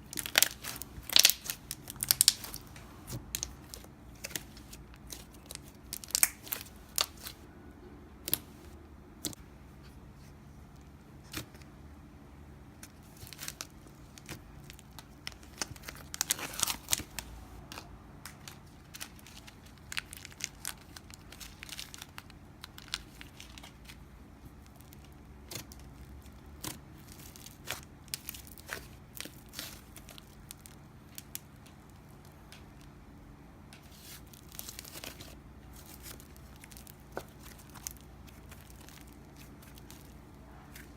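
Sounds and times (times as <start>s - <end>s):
slime clicking and crackling: 0.0s - 7.4s, 12.8s - 33.0s, 33.8s - 40.9s.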